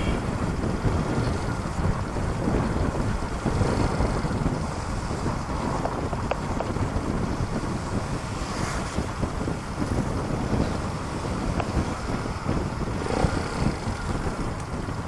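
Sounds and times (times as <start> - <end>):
motorcycle engine: 0.0 - 15.0
wind buffeting microphone: 0.0 - 15.0.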